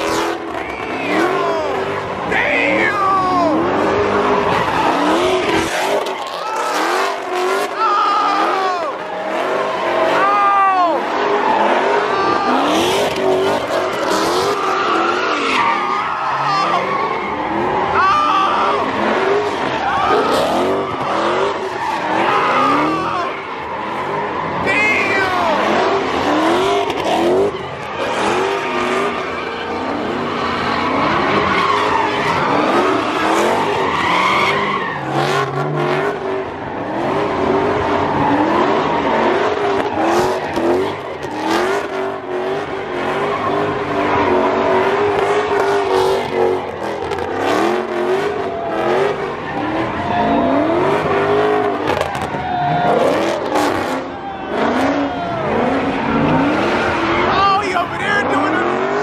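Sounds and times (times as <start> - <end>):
car engines revving hard: 0.0 - 59.0
tires squealing: 0.0 - 59.0.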